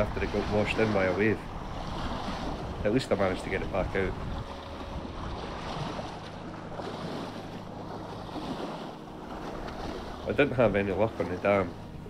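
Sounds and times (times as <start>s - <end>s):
waves lapping against rocks: 0.0s - 12.0s
wind buffeting microphone: 0.0s - 12.0s.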